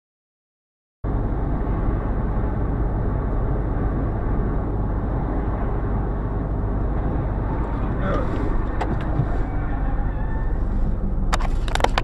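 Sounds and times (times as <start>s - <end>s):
car engine and road rumble: 1.0s - 12.0s.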